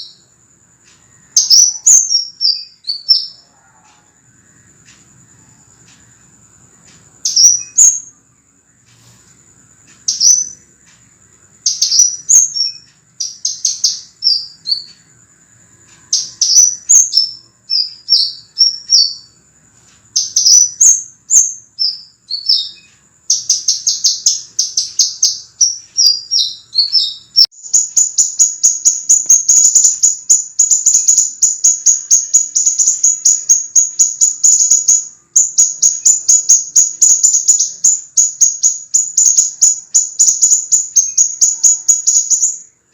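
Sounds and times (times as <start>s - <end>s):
bird chirping: 0.0s - 42.9s
faint high whine: 0.0s - 42.9s.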